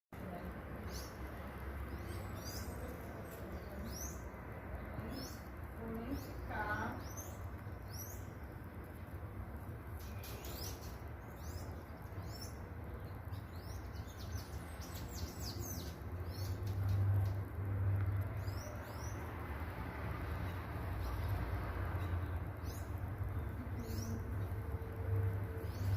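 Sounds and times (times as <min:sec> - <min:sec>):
songbirds chirping: 0:00.2 - 0:25.9.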